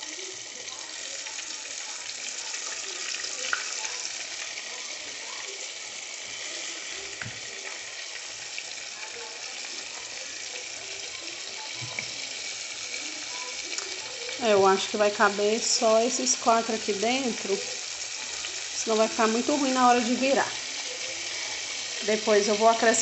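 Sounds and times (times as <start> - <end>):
fish frying in hot oil: 0.0 - 23.0.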